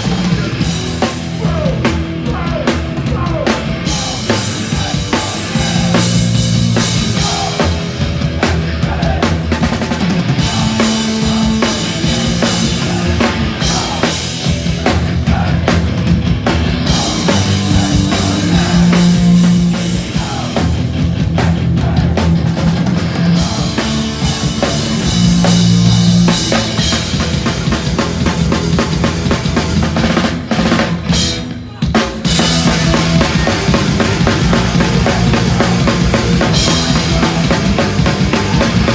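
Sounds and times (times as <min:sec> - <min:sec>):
drum kit pounding: 0:00.0 - 0:38.9
punk band playing live: 0:00.0 - 0:38.9.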